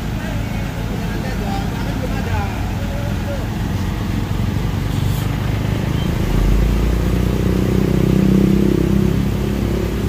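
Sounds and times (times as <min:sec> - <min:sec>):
heavy diesel truck engine revving: 0:00.0 - 0:10.0.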